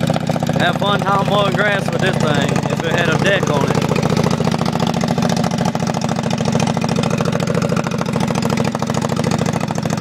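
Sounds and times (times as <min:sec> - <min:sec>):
lawn mower engine crackling: 0:00.0 - 0:10.0.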